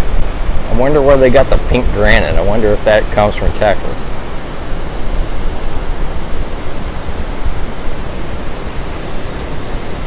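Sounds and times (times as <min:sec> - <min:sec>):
surf breaking on beach: 0:00.0 - 0:10.0.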